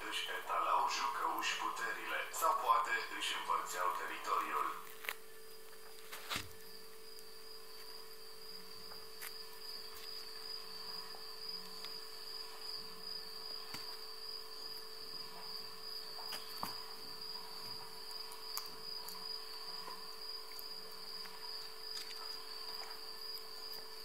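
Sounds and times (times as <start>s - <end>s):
crickets trilling: 0.0s - 24.0s
faint steady hum: 0.0s - 24.0s.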